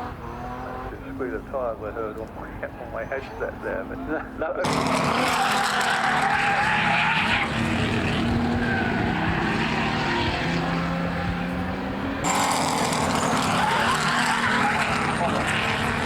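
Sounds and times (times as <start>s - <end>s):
racing car engines running: 0.0s - 16.0s.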